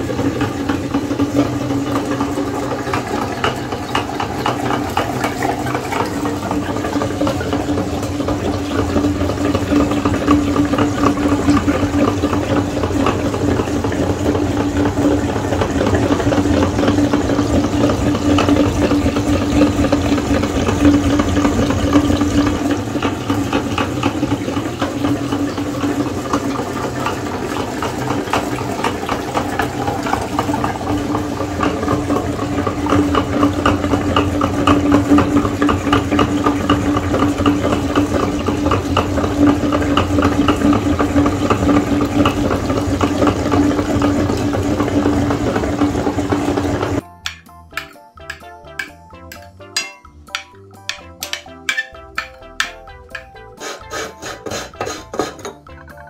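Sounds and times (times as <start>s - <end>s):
meat grinder motor humming: 0.0s - 49.5s, 50.3s - 56.0s
liquid splashing and gurgling: 0.0s - 55.8s.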